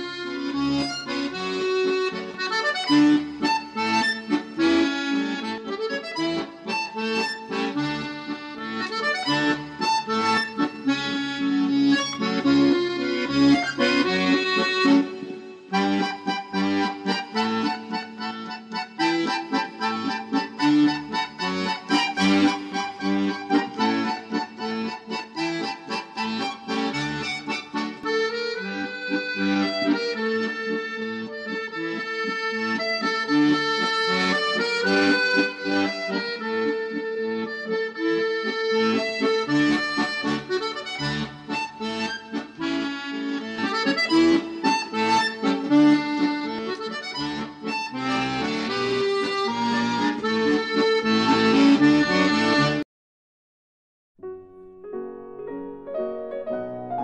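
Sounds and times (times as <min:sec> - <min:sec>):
instrumental music melody: 0:00.0 - 0:52.8, 0:54.2 - 0:57.0.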